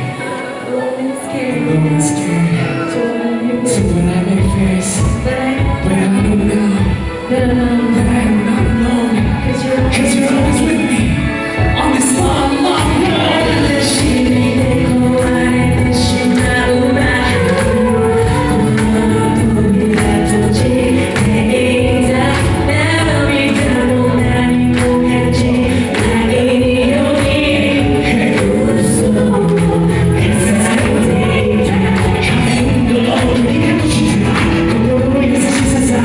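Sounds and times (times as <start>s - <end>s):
loud continuous music: 0.0s - 36.0s
vocal group singing: 0.0s - 36.0s.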